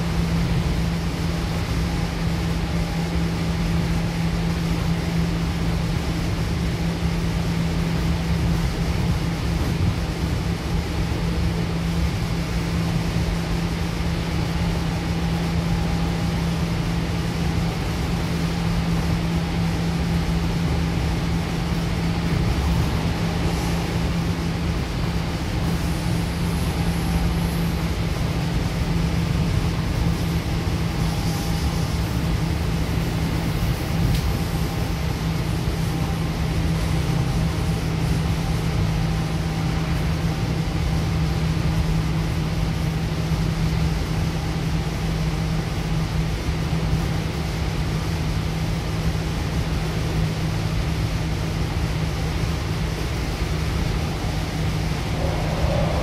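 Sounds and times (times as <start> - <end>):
constant low hum: 0.0 - 56.0
train wheels rumbling on track: 0.0 - 56.0.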